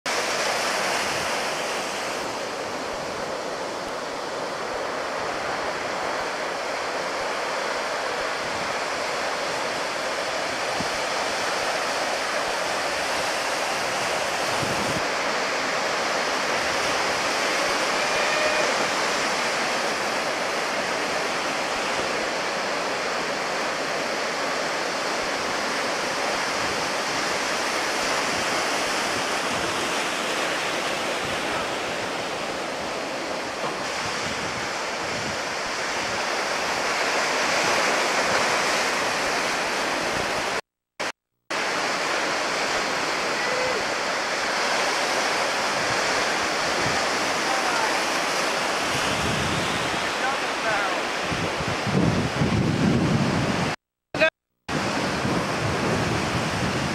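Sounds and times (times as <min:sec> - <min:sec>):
ocean surf breaking: 0:00.1 - 0:56.9.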